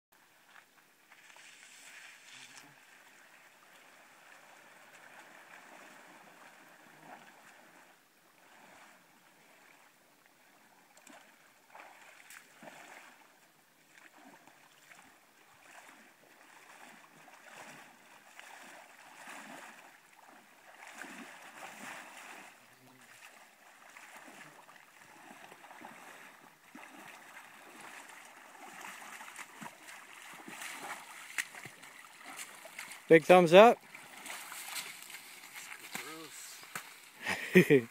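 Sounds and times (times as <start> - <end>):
person wading through water: 0.2 - 37.9.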